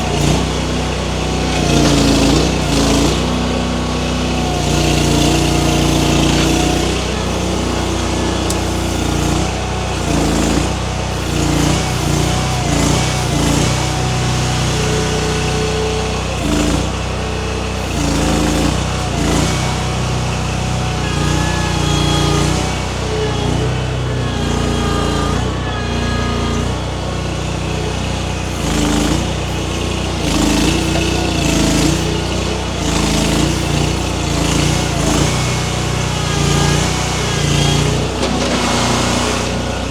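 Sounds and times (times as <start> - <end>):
small engine running under load: 0.0 - 39.9.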